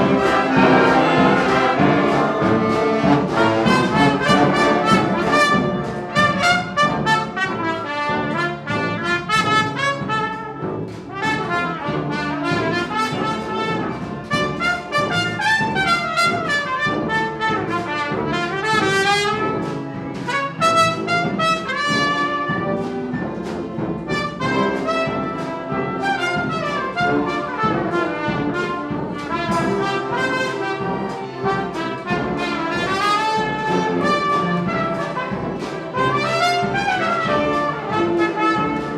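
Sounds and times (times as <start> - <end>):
instrumental ensemble playing: 0.0 - 38.9.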